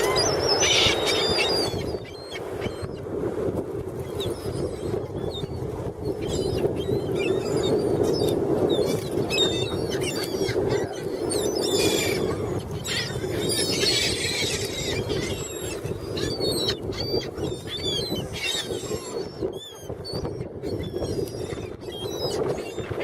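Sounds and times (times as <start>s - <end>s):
seagulls calling: 0.0s - 3.0s, 4.1s - 23.0s.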